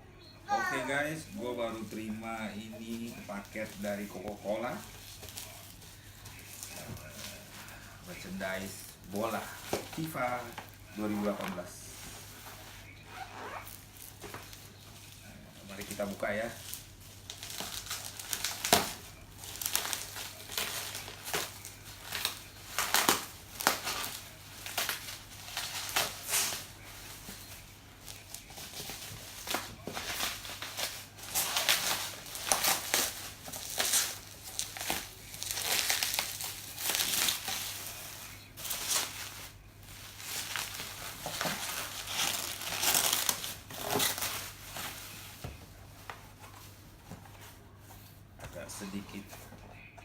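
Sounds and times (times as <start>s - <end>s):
packaging crinkling and rustling: 1.2s - 48.0s.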